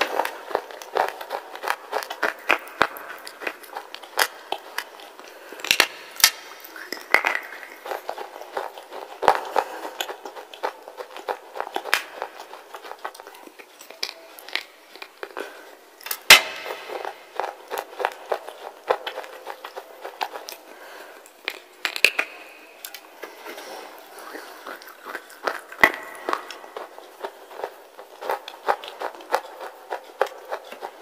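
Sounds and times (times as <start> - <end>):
slate being chewed crunching: 0.0 - 31.0.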